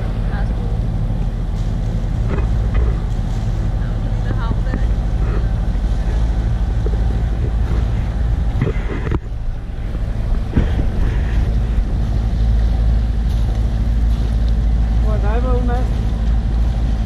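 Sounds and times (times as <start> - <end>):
boat engine droning: 0.0 - 17.0
wind noise on microphone: 0.0 - 17.0.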